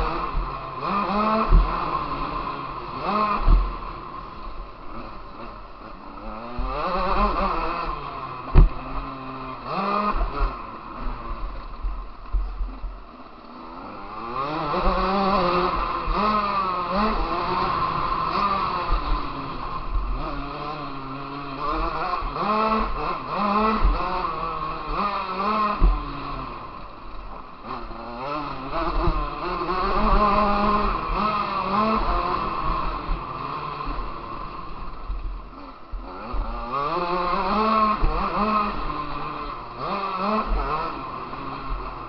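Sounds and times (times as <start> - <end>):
motocross bike engine revving: 0.0 - 42.0.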